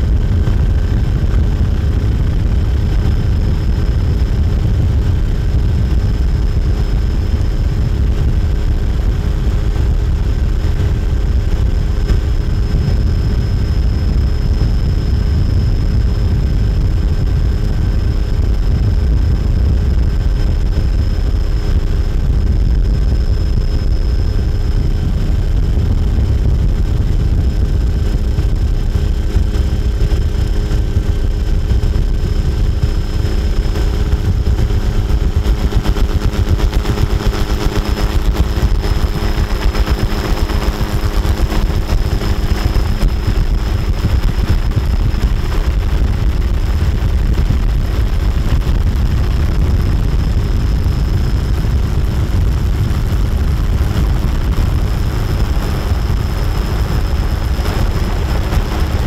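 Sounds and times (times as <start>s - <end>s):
helicopter rumble: 0.0s - 59.0s
rapid rotor fluttering pulse: 0.0s - 59.0s
turbine whine: 0.0s - 59.0s.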